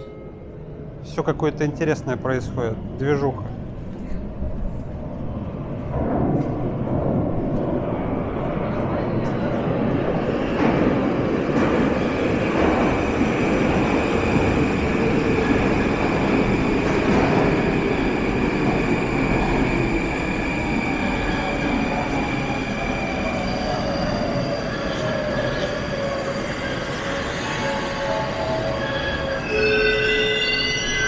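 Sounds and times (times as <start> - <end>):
metro train rumbling: 0.0 - 31.0.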